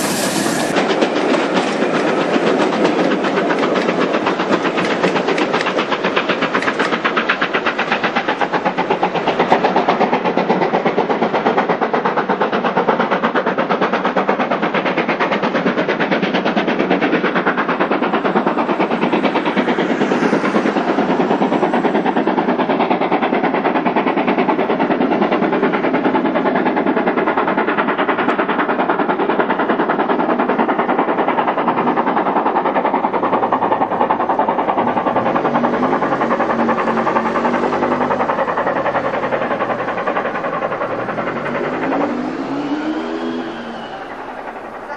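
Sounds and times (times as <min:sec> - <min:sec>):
steam locomotive exhaust beat: 0:00.0 - 0:44.9.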